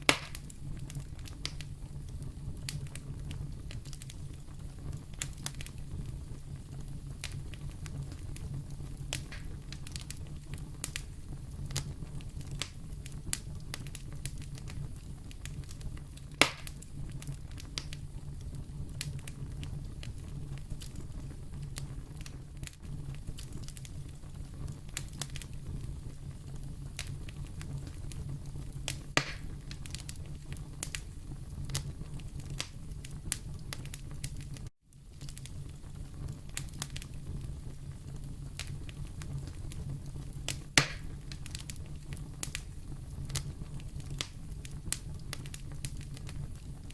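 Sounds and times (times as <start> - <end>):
loud fire pops: 0.0 - 46.9
low rumble of flames: 0.0 - 46.9
wood fire crackling: 0.0 - 46.9.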